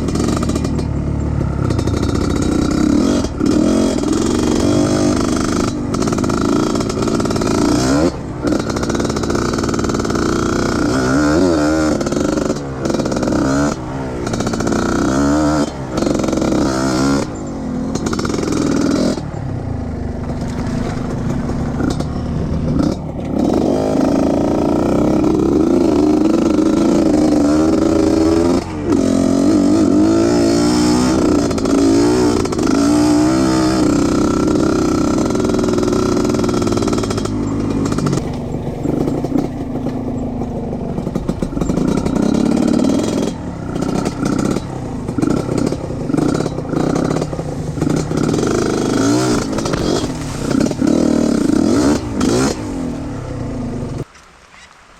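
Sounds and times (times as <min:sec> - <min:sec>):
motorcycle engine revving: 0:00.0 - 0:54.1.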